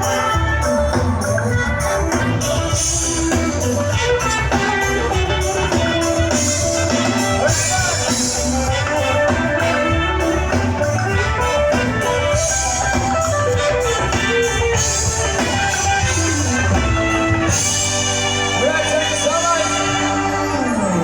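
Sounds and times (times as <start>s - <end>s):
drums: 0.0s - 21.0s
electric guitar: 0.0s - 21.0s
live band through speakers: 0.0s - 21.0s.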